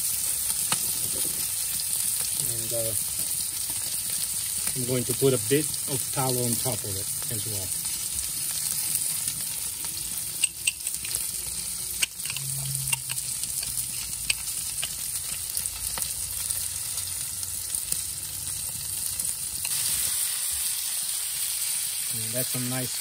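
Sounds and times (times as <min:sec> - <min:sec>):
steak sizzling on hot plate: 0:00.0 - 0:23.0.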